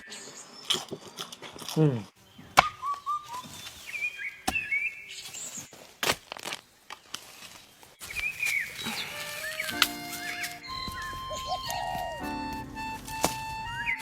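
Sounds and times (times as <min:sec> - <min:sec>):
small birds chirping: 0:00.0 - 0:05.9, 0:06.6 - 0:14.0.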